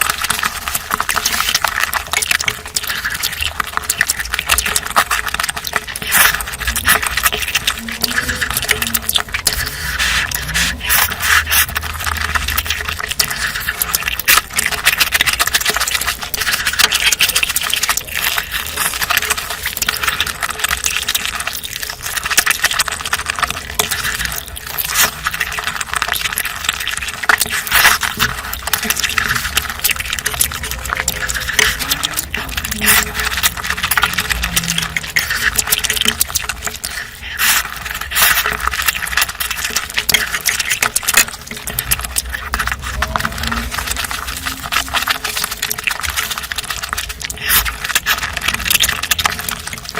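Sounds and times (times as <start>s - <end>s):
small crackly clicks: 0.0s - 49.9s
wet chewing and mouth smacking: 0.0s - 49.9s.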